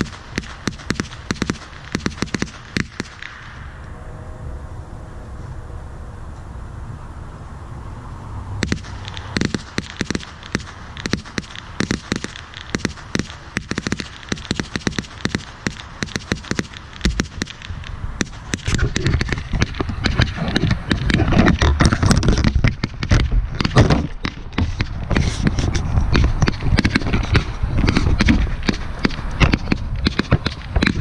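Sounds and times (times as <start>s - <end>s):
firecrackers cracking: 0.0s - 3.7s, 8.6s - 31.0s.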